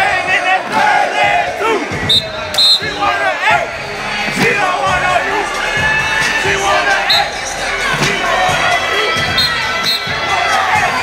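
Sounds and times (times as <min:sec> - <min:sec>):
crowd cheering: 0:00.0 - 0:11.0
music: 0:00.0 - 0:11.0.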